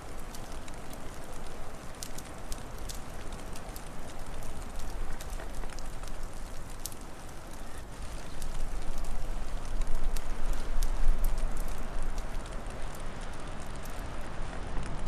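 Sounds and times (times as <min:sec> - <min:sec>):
wind: 0:00.0 - 0:15.0
wood fire crackling: 0:00.0 - 0:15.0.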